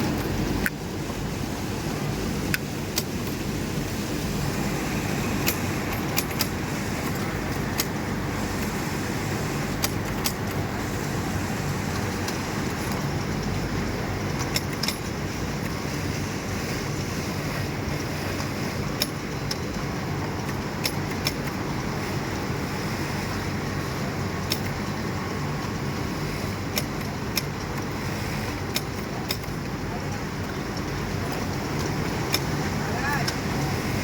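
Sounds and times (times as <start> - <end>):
sewing machine motors humming: 1.9 - 34.0.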